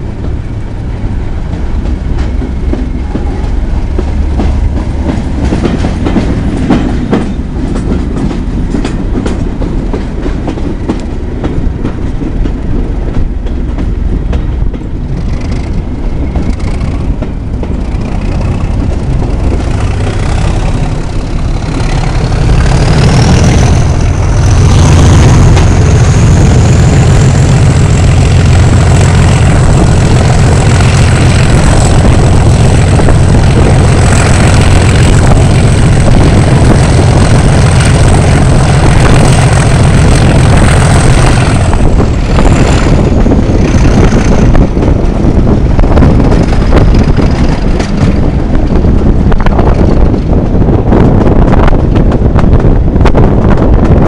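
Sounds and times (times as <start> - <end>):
diesel locomotive engine: 0.0 - 54.0
wind rushing over microphone: 0.0 - 54.0.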